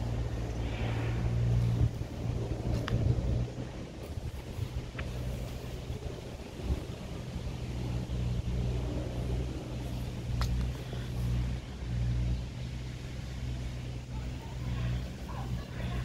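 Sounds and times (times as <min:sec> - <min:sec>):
low mechanical rumble with hum: 0:00.0 - 0:16.0.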